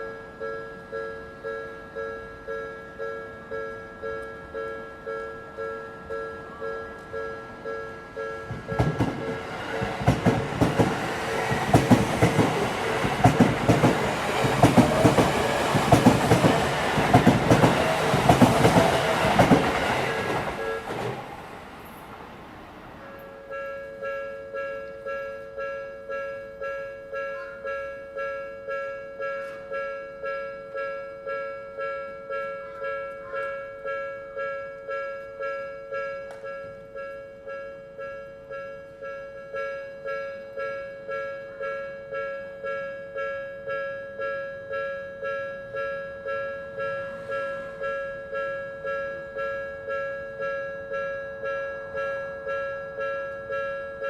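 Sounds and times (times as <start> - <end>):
level crossing alarm bell: 0.0 - 21.1, 23.2 - 54.0.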